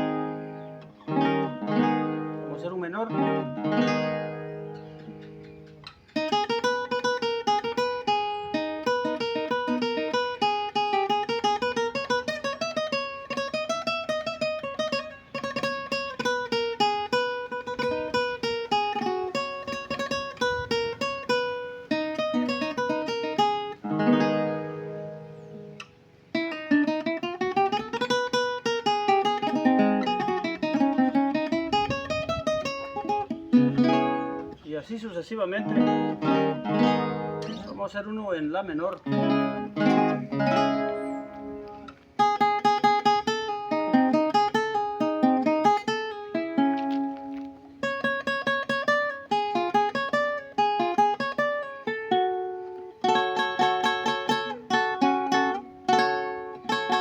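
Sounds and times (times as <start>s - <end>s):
solo guitar picking: 0.0s - 57.0s.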